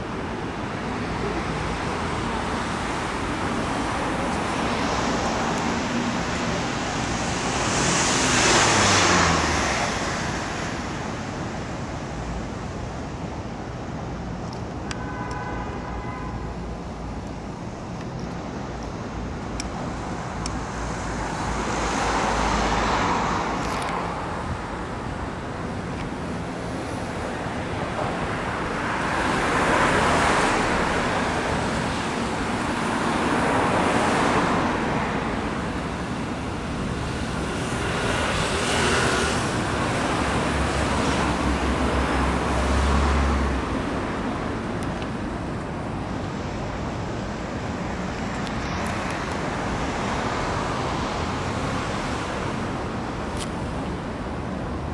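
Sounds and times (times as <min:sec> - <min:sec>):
low traffic rumble: 0:00.0 - 0:54.9
vehicles passing: 0:00.0 - 0:54.9.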